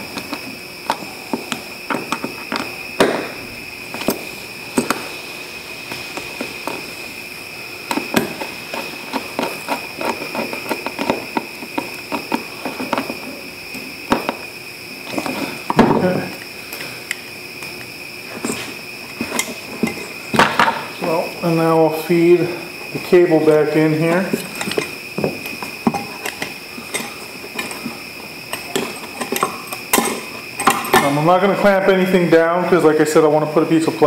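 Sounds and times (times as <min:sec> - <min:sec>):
steady high whine: 0:00.0 - 0:34.0.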